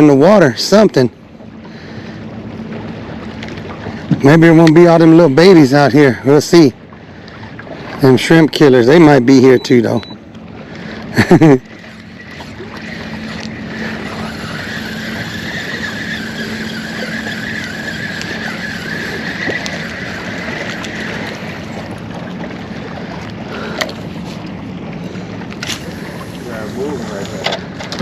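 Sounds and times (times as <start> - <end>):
water and wind hiss: 0.0 - 28.0
electric trolling motor humming: 0.8 - 28.0.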